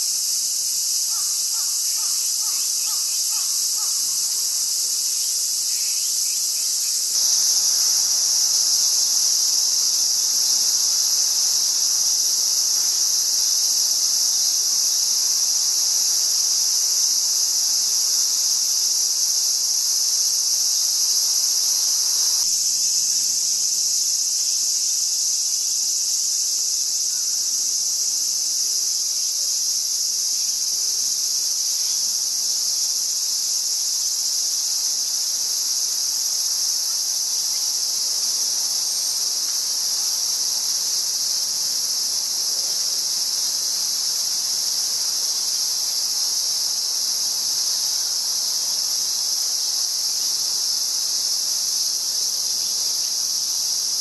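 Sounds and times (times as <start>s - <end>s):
cicadas chorus hissing: 0.0s - 54.0s.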